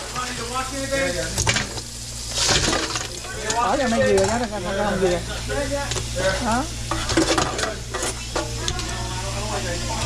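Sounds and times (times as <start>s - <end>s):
tap water running into a pot: 0.0s - 10.0s.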